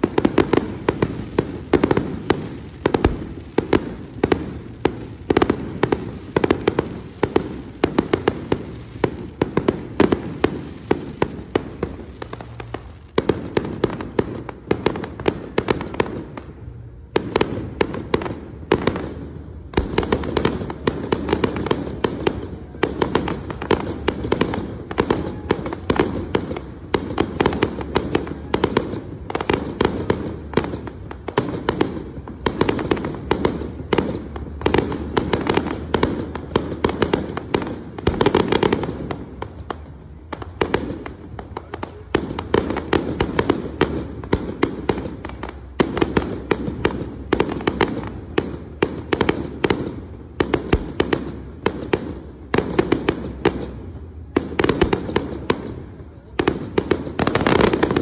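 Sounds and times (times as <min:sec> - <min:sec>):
fireworks cracking and banging: 0:00.0 - 0:58.0.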